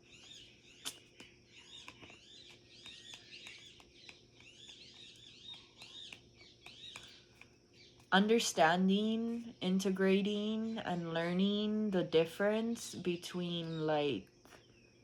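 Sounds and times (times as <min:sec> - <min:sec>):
faint birdsong chirping: 0:00.0 - 0:15.0.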